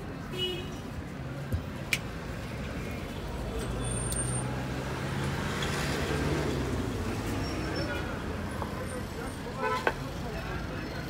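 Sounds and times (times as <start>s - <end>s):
rumble of passing cars and buses: 0.0s - 11.0s.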